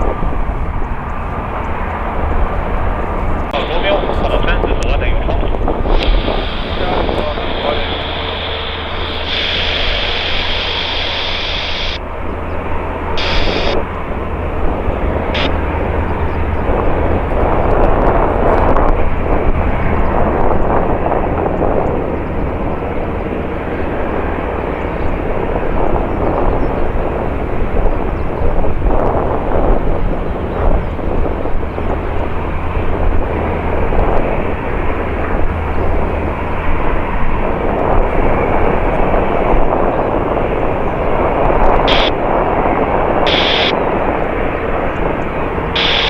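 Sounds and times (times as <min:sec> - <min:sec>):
high whine: 0:00.0 - 0:27.1, 0:30.0 - 0:46.0
jet engines rumbling: 0:00.0 - 0:46.0.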